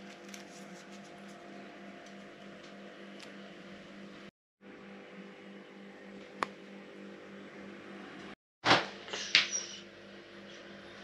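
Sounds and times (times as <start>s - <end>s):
low hum with held tones: 0.0s - 11.0s.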